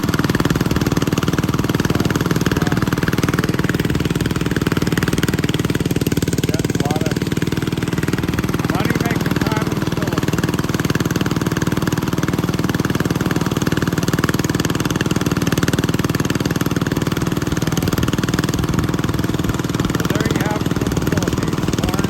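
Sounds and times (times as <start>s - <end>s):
corn sheller engine running: 0.0s - 22.0s.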